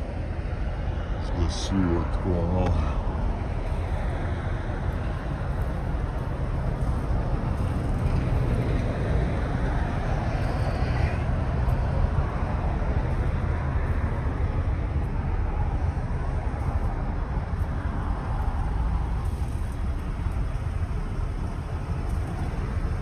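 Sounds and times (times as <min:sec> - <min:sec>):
steady low rumbling noise: 0:00.0 - 0:23.0.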